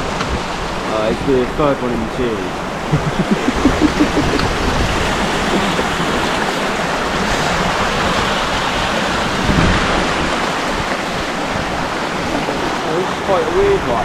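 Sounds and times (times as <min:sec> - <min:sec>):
fast-flowing river rushing: 0:00.0 - 0:14.0
wind: 0:00.0 - 0:14.0.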